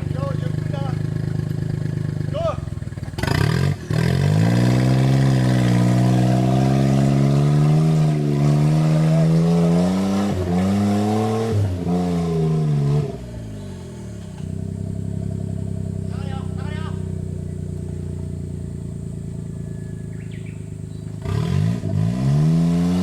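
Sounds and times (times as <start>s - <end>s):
car engine revving and idling: 0.0s - 23.0s.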